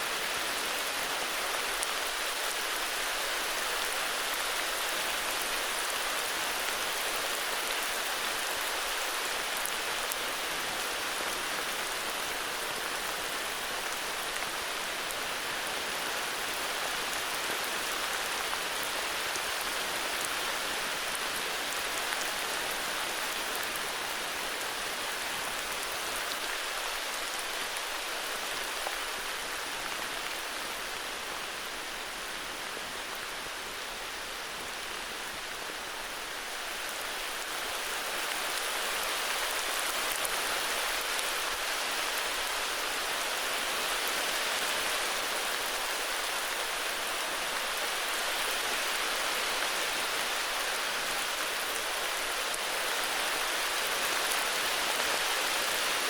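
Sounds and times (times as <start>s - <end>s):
heavy rain in a forest: 0.0s - 56.0s.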